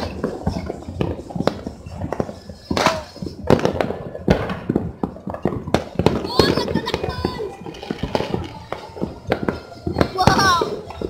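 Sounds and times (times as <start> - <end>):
firecrackers and fireworks bangs: 0.0 - 11.0.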